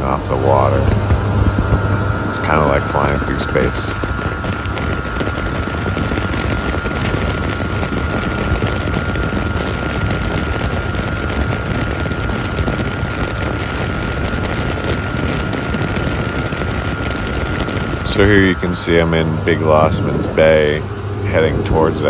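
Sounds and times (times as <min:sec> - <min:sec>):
outboard motor running: 0:00.0 - 0:22.0
rush of wind and water: 0:00.0 - 0:22.0
thin steady whine: 0:00.0 - 0:22.0.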